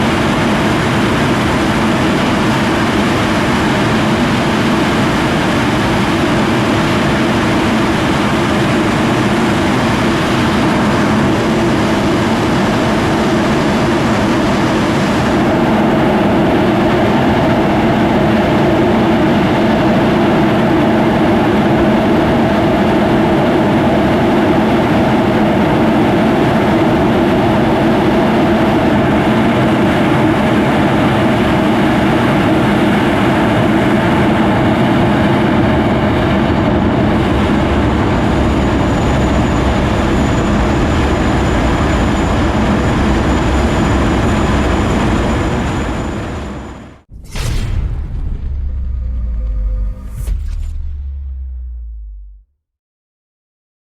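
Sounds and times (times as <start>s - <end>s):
jet engines running loudly: 0.0s - 51.6s.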